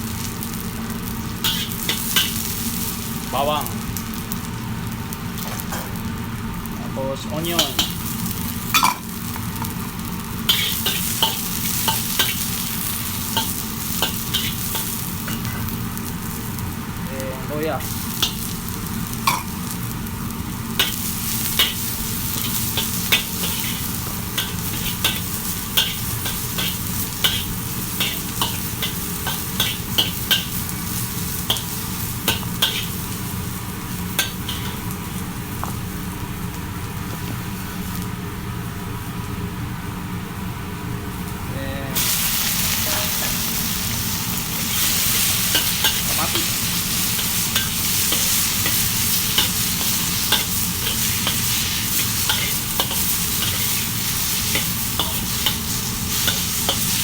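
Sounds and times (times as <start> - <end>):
garlic and onion sizzling in oil: 0.0 - 57.0.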